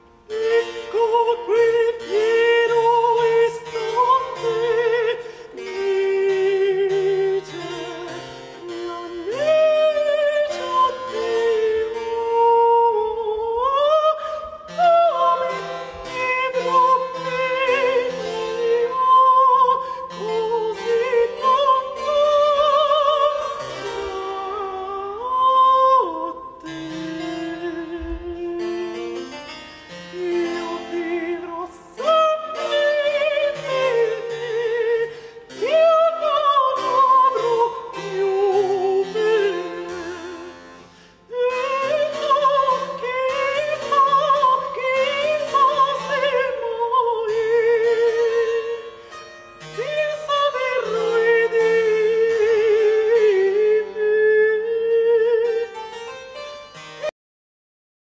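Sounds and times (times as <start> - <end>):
high voice singing opera: 0.0 - 29.4, 30.1 - 49.0, 49.7 - 55.8
harpsichord accompaniment: 0.0 - 57.1.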